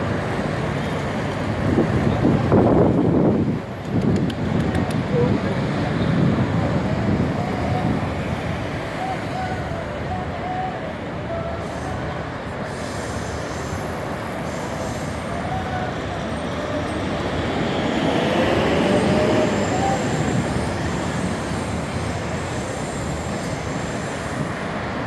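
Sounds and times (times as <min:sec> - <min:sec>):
city traffic noise: 0:00.0 - 0:25.0
electric train rumbling overhead: 0:00.0 - 0:25.0.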